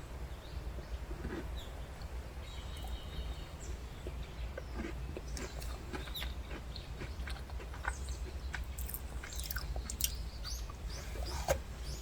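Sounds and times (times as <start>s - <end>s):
cookie crunching while chewed: 1.1s - 10.9s.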